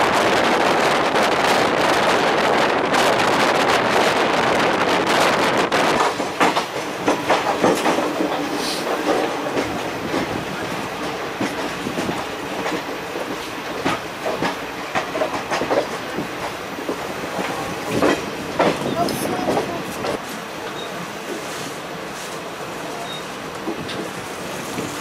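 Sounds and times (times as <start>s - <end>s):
train wheels clattering over track: 0.0s - 25.0s.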